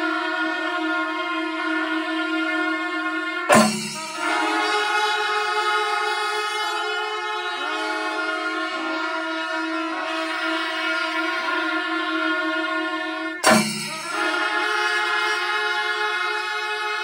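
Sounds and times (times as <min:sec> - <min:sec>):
reed pipes and horns holding chord: 0:00.0 - 0:17.0.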